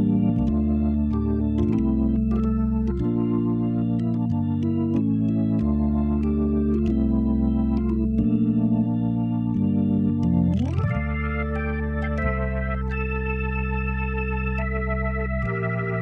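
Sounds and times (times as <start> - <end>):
drawbar organ chords: 0.0 - 16.0
low bass notes: 0.0 - 16.0.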